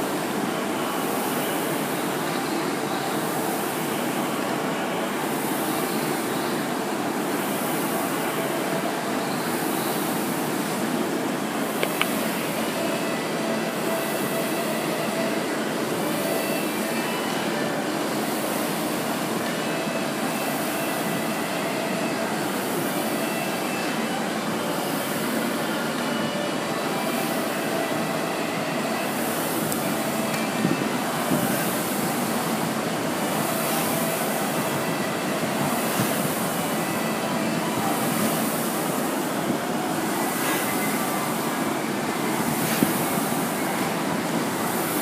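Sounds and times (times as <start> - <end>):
rowing machine fan whooshing: 0.0 - 45.0.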